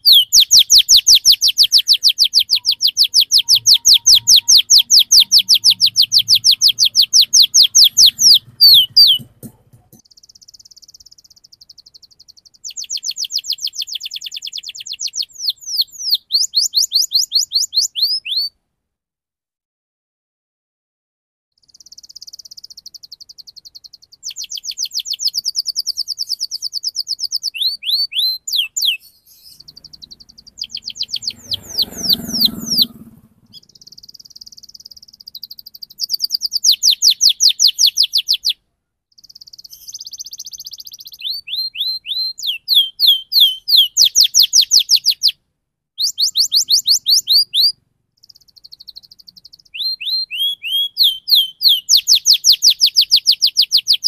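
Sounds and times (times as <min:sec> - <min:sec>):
canary singing: 0:00.0 - 0:18.6, 0:21.6 - 0:45.4, 0:46.0 - 0:54.0.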